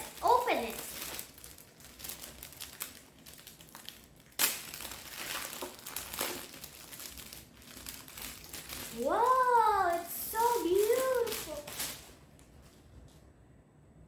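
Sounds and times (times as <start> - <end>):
packaging crinkling: 0.0 - 12.8.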